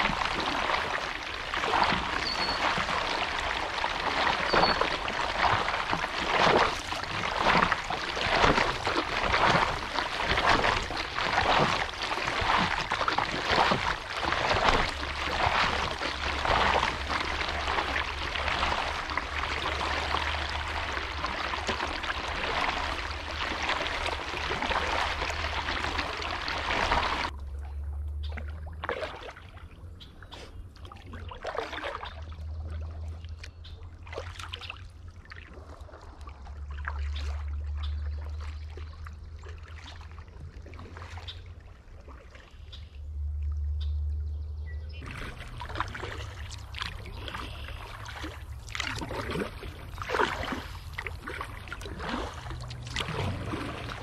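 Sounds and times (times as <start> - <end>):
paddle strokes splashing: 0.0 - 42.7, 45.0 - 54.0
water rushing along hull: 0.0 - 44.2, 44.9 - 54.0.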